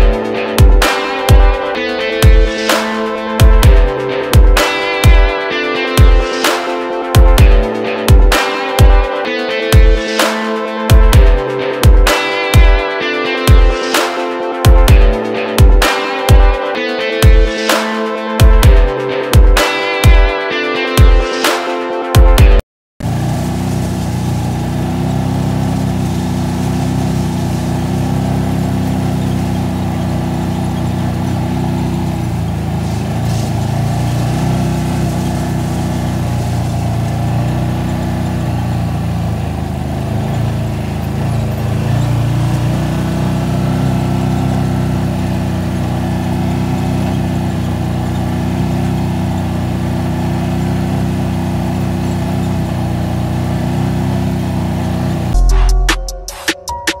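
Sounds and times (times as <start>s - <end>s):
vehicle engine running: 0.0s - 21.6s, 22.2s - 55.5s.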